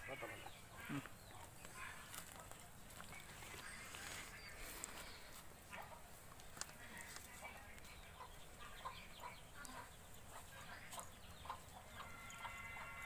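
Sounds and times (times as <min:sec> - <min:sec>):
bird calls and chirps: 0:00.0 - 0:13.0.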